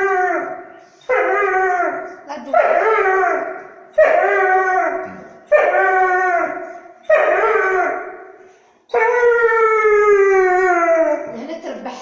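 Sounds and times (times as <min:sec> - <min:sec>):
dog howling and whimpering: 0:00.0 - 0:08.2, 0:08.9 - 0:11.4.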